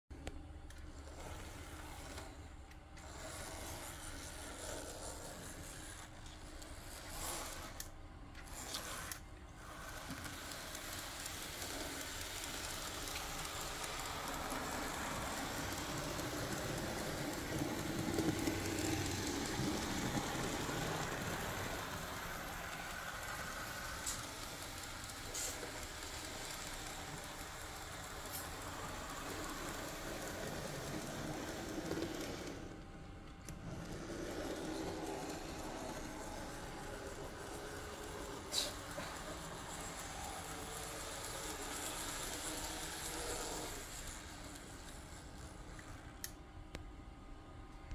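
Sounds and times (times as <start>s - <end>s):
small electric motor whirring: 0.7s - 32.8s, 33.4s - 46.4s
model train wheels rattling: 0.7s - 46.4s.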